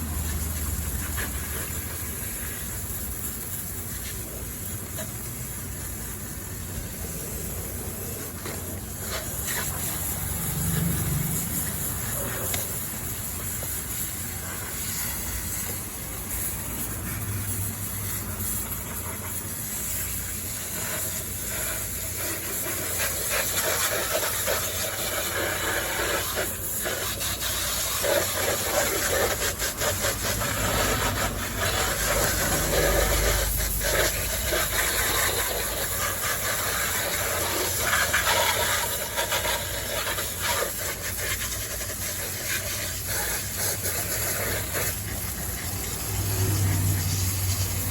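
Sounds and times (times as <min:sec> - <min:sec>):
spray hissing: 0:00.0 - 0:47.9.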